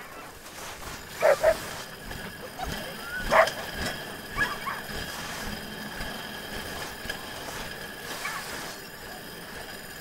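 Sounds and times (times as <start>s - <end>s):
sled dogs running: 0.0s - 10.0s.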